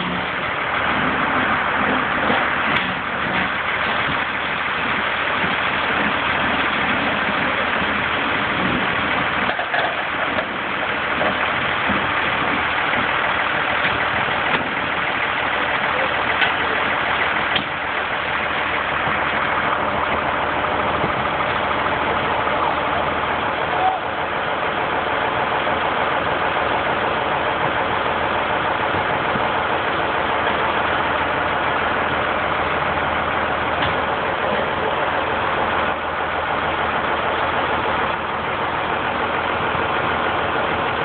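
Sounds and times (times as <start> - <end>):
truck diesel engine running: 0.0 - 41.0.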